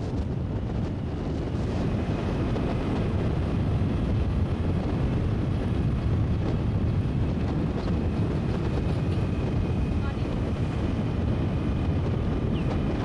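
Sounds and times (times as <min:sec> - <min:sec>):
road noise: 0:00.0 - 0:13.0
wind rushing on microphone: 0:00.0 - 0:13.0.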